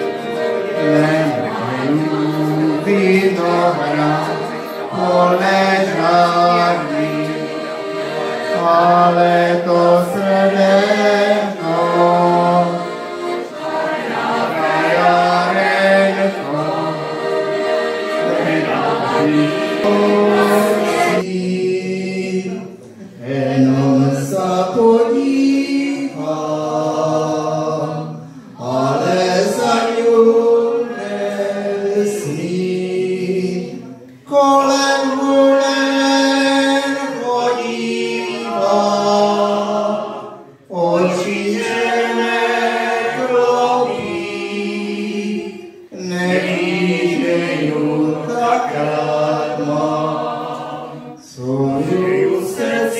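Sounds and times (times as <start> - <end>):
man and woman singing: 0.0 - 7.6, 8.5 - 13.0, 18.2 - 52.9.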